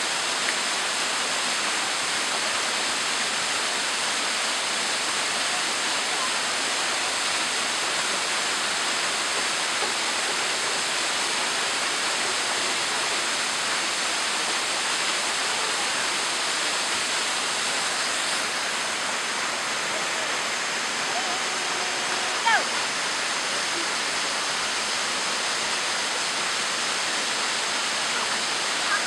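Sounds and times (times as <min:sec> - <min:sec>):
waterfall splashing onto rocks: 0:00.0 - 0:29.0.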